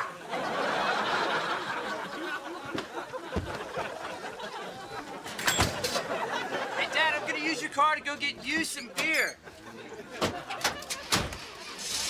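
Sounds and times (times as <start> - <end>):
studio audience laughter: 0.0 - 7.7, 8.3 - 11.1.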